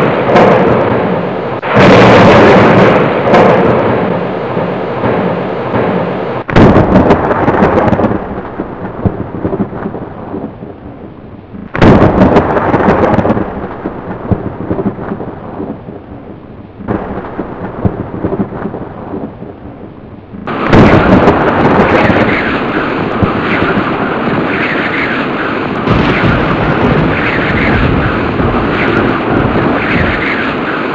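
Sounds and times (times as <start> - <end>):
thunder cracks and rumbles: 0.0 - 30.9.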